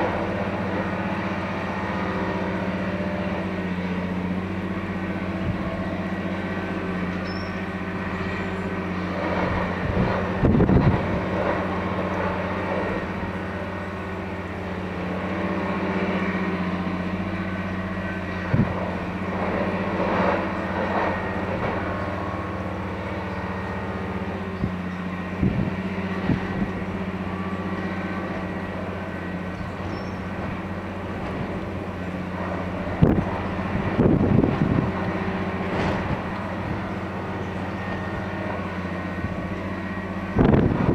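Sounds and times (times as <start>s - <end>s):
loud noisy tamping bursts: 0.0s - 40.9s
track tamping machine diesel drone: 0.0s - 40.9s.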